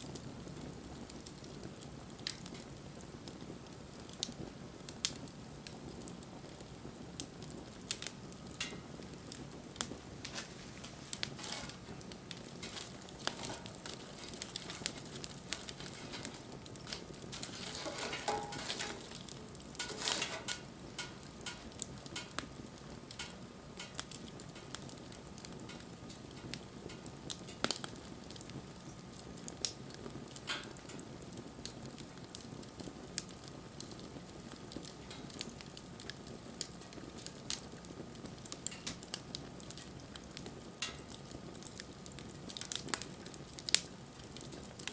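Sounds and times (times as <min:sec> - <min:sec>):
fire crackling and popping: 0:00.0 - 0:44.9
wood fire hissing: 0:00.0 - 0:44.9.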